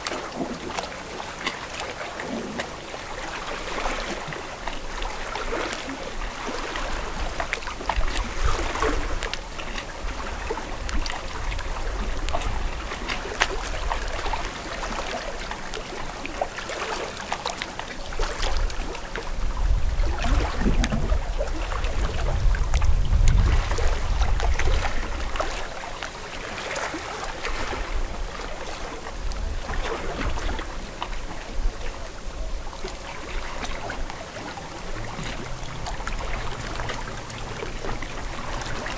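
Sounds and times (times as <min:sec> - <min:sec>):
water lapping and splashing: 0:00.0 - 0:38.9
wind rumbling on microphone: 0:02.2 - 0:16.4, 0:18.0 - 0:38.9.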